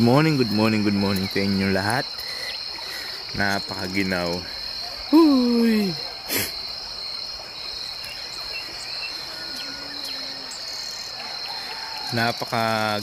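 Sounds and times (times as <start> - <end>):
faint bird chirps: 0.0 - 12.4
crickets and insects chirring: 0.0 - 13.0.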